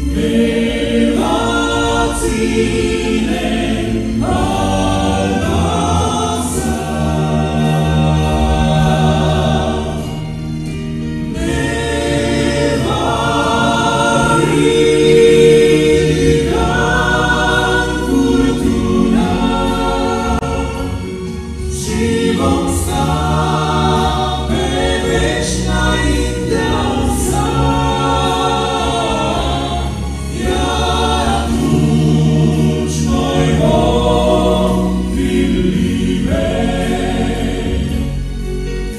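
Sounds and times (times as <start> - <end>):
male vocal quartet singing gospel: 0.0 - 38.9.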